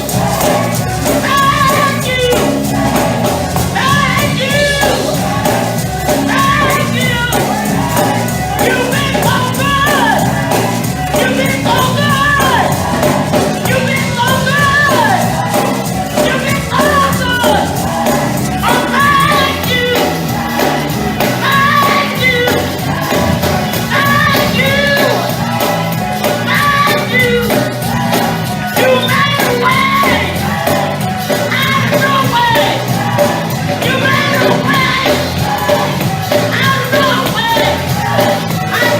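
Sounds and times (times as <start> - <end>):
band playing gospel music: 0.0 - 38.9
percussive beat: 0.0 - 38.9
steady bass: 0.0 - 38.9
voices singing: 0.0 - 38.9.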